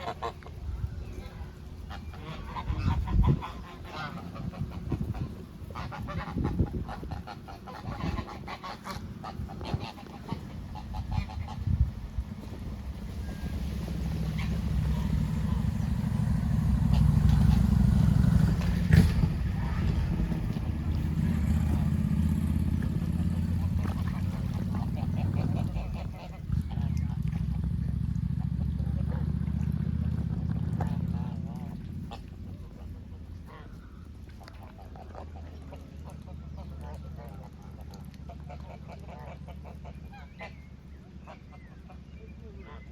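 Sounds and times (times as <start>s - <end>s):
geese honking: 0.0s - 27.6s, 30.8s - 42.9s
low rumble: 0.0s - 41.1s
vehicle engine passing: 0.0s - 42.1s.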